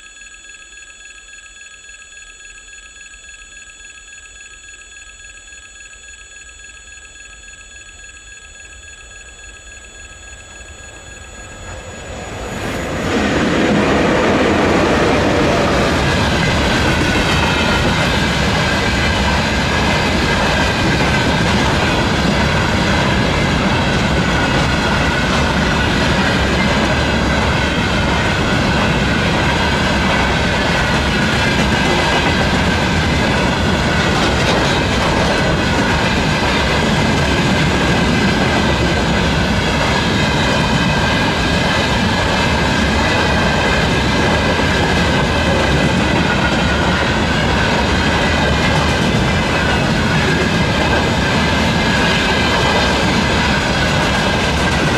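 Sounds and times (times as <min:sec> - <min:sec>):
freight train rumbling past: 0:10.4 - 0:54.9.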